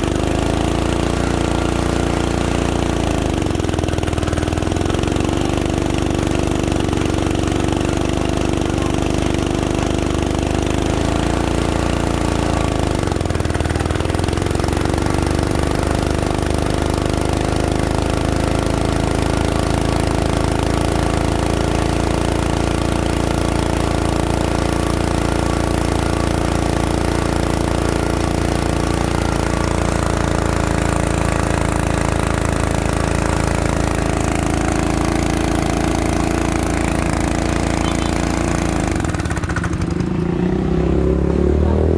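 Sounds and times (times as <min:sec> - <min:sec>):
drilling machine engine running: 0:00.0 - 0:41.9.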